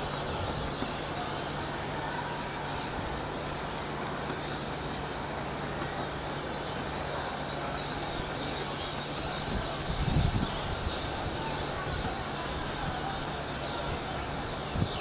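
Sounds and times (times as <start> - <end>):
city traffic hum: 0.0 - 15.0
flock of birds chirping: 0.0 - 15.0.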